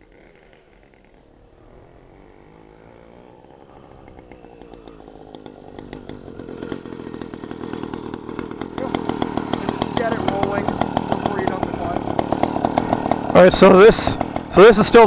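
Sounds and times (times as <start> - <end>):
motorized bicycle engine popping: 2.7 - 15.0.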